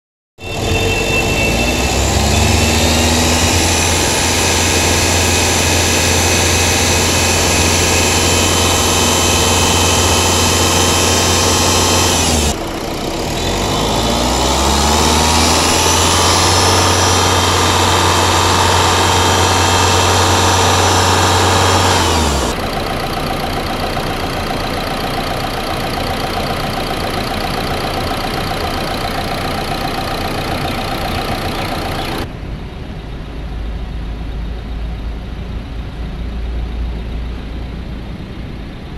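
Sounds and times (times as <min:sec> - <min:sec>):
car engine revving and idling: 0:00.4 - 0:32.3.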